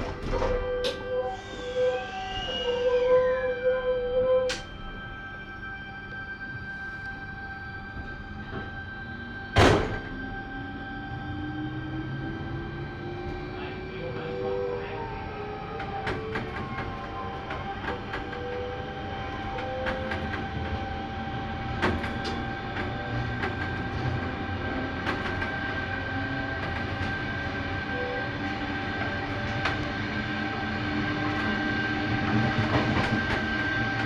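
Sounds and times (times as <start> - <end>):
train rumble with whine: 0.0 - 34.0.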